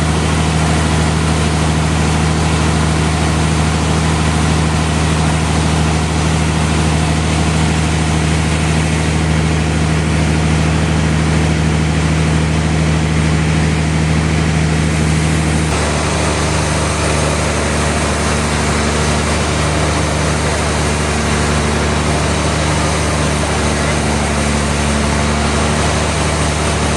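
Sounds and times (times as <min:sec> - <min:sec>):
sawmill machinery drone: 0:00.0 - 0:26.9.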